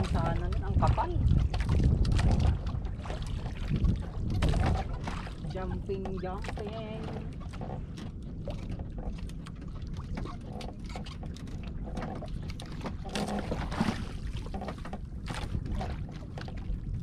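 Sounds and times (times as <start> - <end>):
boat engine low rumble: 0.0 - 17.0.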